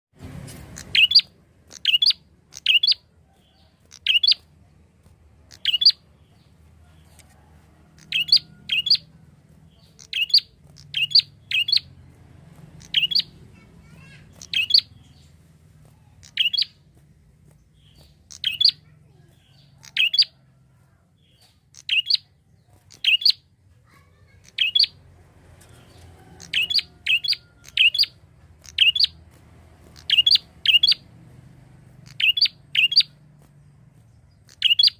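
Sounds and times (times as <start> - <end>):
bird chirping sharply: 0.3 - 4.5, 5.4 - 16.8, 17.4 - 20.4, 21.2 - 25.1, 25.7 - 31.2, 31.9 - 33.2, 34.0 - 34.9.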